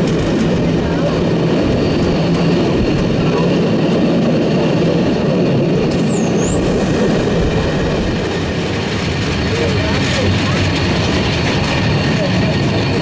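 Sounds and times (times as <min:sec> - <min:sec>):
train carriages rolling over track: 0:00.0 - 0:13.0.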